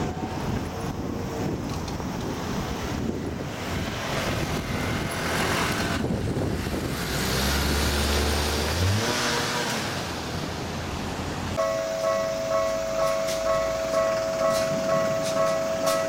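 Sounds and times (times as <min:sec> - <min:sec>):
tyre and road noise: 0:00.0 - 0:16.0.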